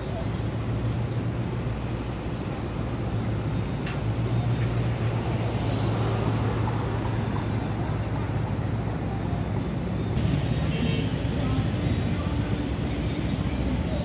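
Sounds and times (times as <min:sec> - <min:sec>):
outdoor traffic noise: 0:00.0 - 0:14.0.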